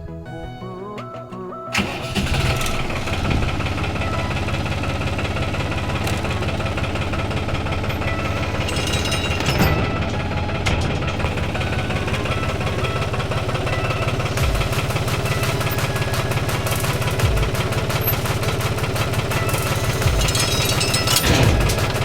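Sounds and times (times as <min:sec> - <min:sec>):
engine pulsing: 0:00.0 - 0:22.0.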